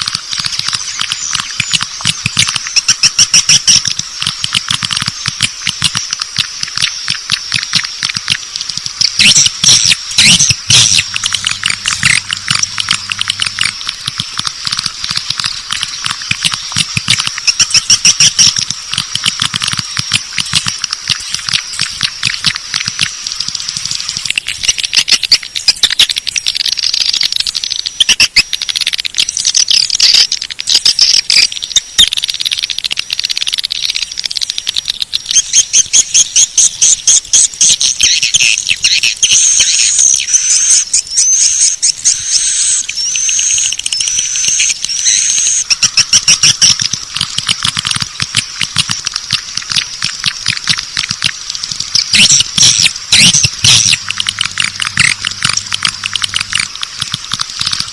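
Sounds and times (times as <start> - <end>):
swiftlets clicking and chirping: 0.0 - 57.9.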